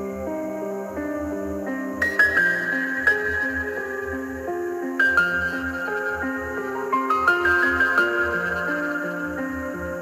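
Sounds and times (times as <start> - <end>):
background music with chords: 0.0 - 10.0.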